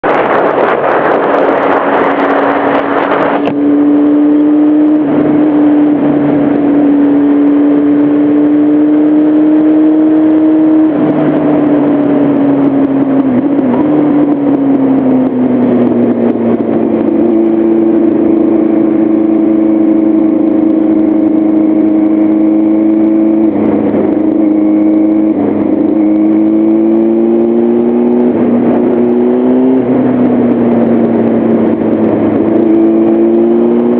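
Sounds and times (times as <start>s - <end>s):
motorcycle engine cruising: 0.0s - 33.9s
wind noise: 0.0s - 33.9s.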